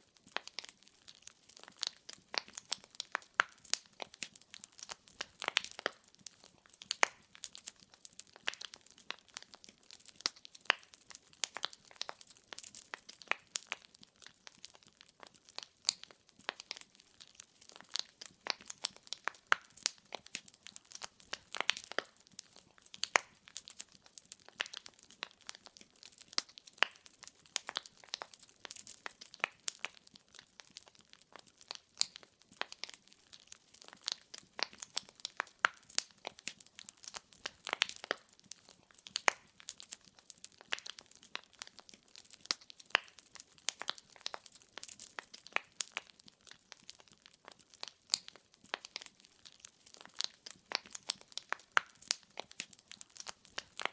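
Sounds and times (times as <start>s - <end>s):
firewood crackling in fireplace: 0.0s - 53.9s.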